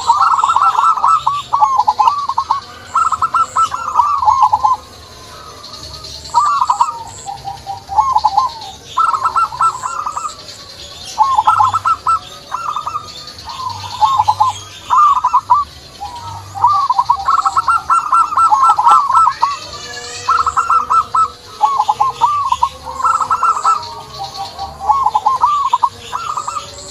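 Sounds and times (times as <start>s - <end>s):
dove cooing: 0.0s - 26.9s
faint high chirps: 0.0s - 26.9s.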